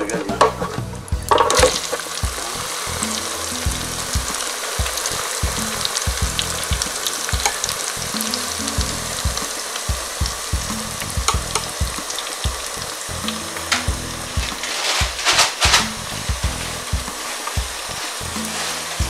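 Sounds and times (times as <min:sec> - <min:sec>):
oil sizzling and crackling: 0:00.0 - 0:19.0
fries bubbling in hot oil: 0:01.1 - 0:19.0.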